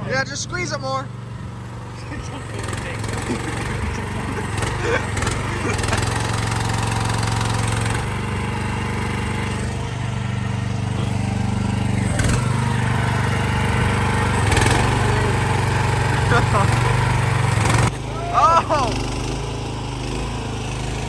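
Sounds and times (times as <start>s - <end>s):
small excavator engine running: 0.0s - 21.0s.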